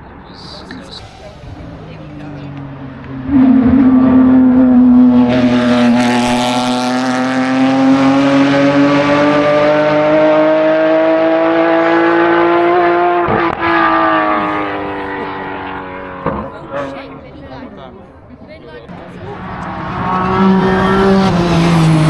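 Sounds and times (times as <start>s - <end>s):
race car engine at high revs: 0.0s - 17.5s, 18.9s - 22.0s.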